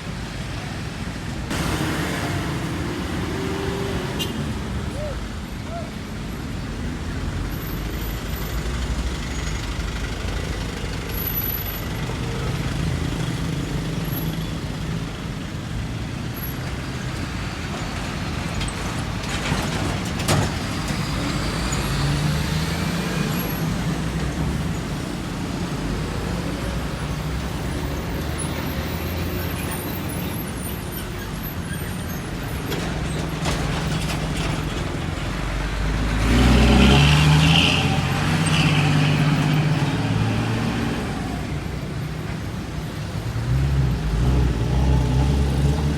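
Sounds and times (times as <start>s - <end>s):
heavy trucks passing: 0.0s - 45.9s.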